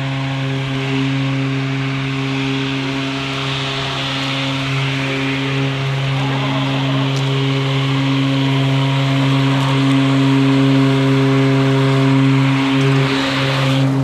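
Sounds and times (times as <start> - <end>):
electric lawn mower humming: 0.0 - 14.0.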